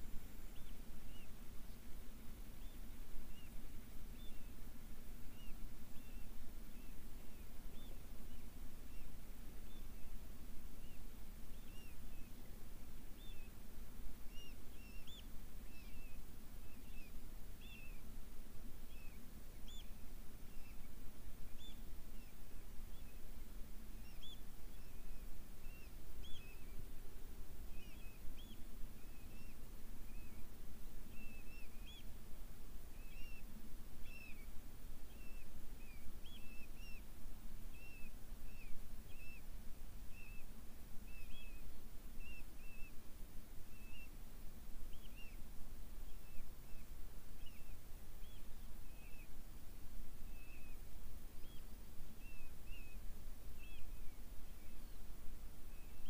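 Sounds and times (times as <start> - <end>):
bird chirping: 0.0 - 56.0
low steady rumble: 0.0 - 56.0.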